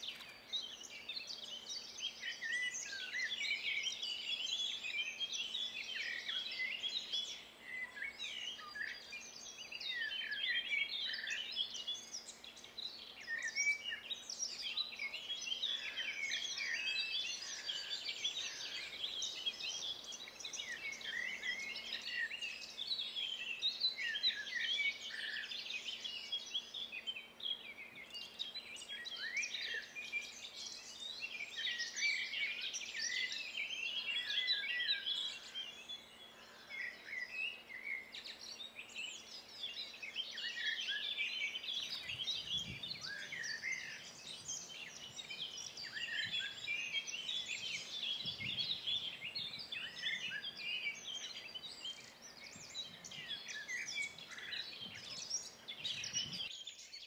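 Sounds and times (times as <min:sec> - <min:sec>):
songbirds chorus: 0:00.0 - 0:57.0.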